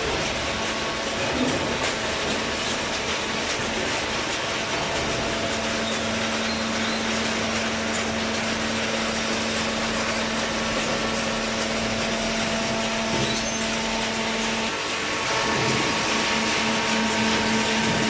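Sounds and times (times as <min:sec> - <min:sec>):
baler machine humming: 0:00.0 - 0:18.0.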